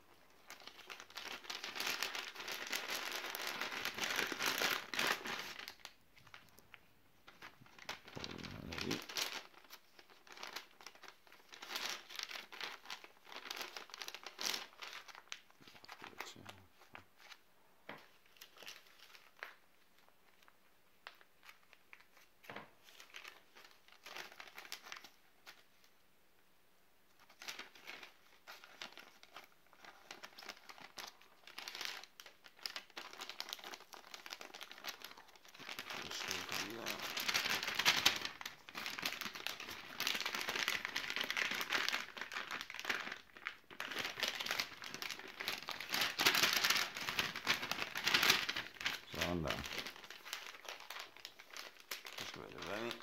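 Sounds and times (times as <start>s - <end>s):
plastic packaging crinkling: 0.0s - 25.9s, 27.2s - 53.0s.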